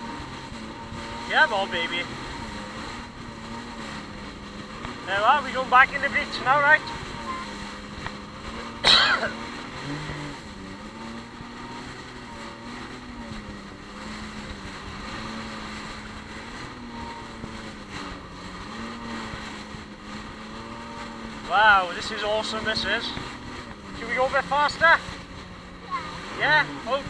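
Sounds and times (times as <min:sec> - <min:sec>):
jet ski engine running: 0:00.0 - 0:27.0
rushing water and spray: 0:00.0 - 0:27.0.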